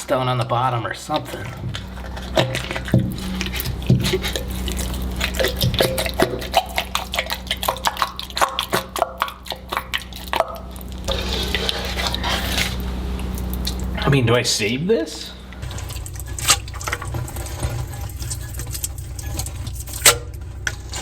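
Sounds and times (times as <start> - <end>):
wet clay squelching and dripping: 0.0 - 14.4, 15.3 - 21.0
steady low hum: 0.0 - 21.0.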